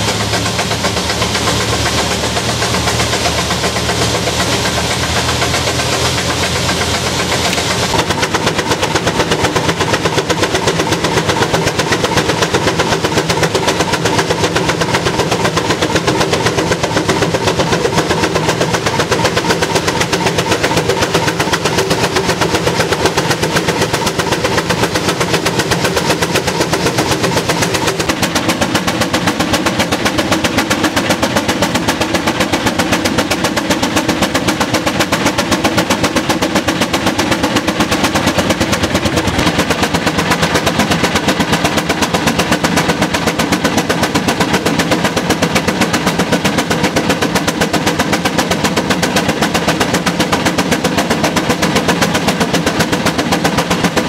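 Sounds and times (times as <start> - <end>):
engine running with exhaust beat: 0.0 - 54.0.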